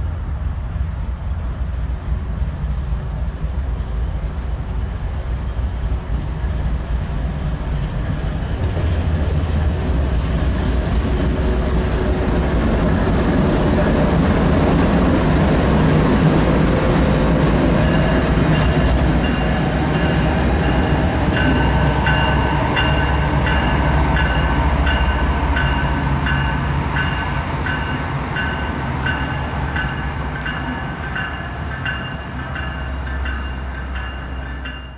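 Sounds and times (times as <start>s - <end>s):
diesel locomotives rumbling: 0.0s - 34.9s.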